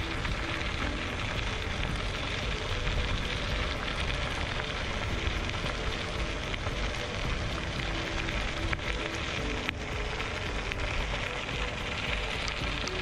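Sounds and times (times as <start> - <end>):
tyres rolling over gravel: 0.0 - 13.0.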